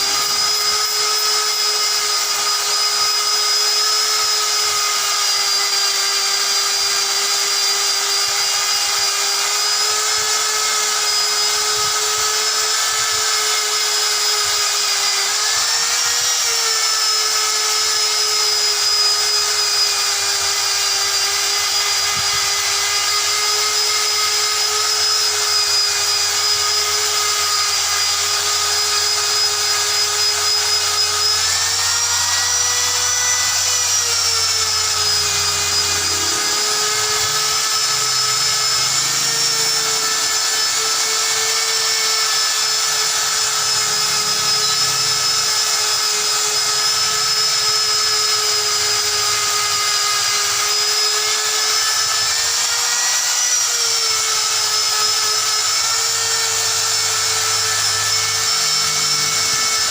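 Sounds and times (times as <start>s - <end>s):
rotary power tool whining: 0.0s - 59.9s.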